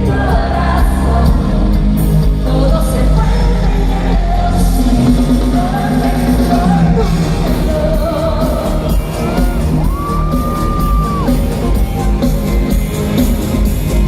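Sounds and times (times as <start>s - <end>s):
live pop band with singer: 0.0s - 14.0s.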